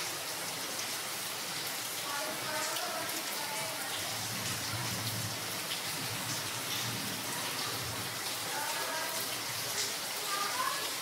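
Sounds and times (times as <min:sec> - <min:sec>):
rain on a tiled roof: 0:00.0 - 0:11.0
water dripping: 0:00.0 - 0:11.0.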